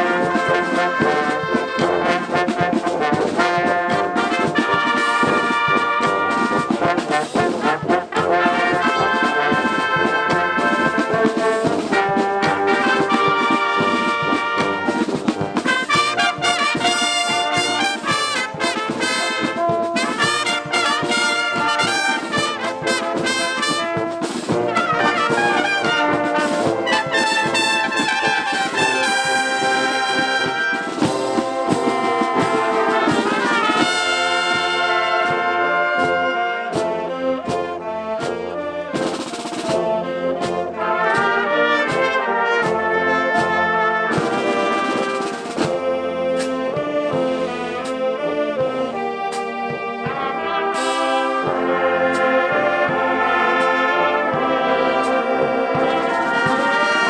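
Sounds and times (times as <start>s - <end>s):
brass chords: 0.0s - 57.0s
snare drums: 0.0s - 57.0s.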